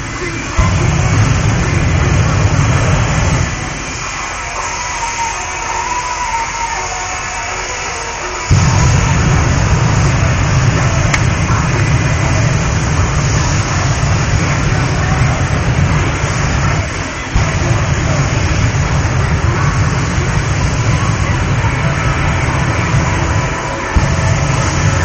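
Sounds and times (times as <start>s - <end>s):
jet engine roaring: 0.0s - 25.0s.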